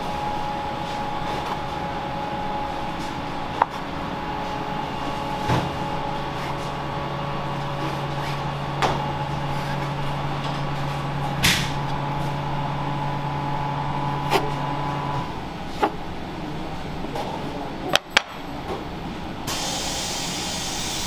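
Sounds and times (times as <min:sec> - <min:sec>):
kitchen machine hum: 0:00.0 - 0:21.0.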